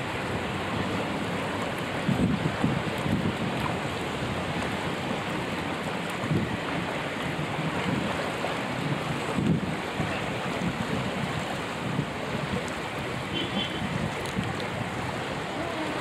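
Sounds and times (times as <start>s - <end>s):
boat noise: 0.0s - 16.0s
water rushing: 0.0s - 16.0s
wind buffeting microphone: 0.0s - 16.0s.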